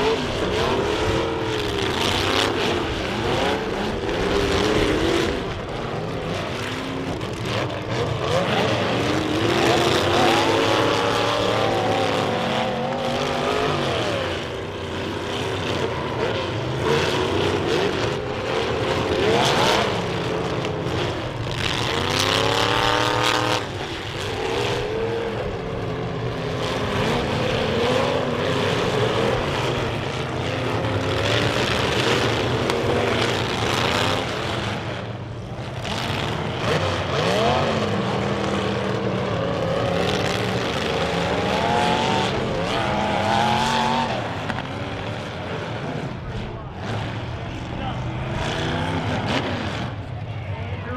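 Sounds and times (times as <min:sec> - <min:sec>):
car engines revving hard: 0:00.0 - 0:50.9.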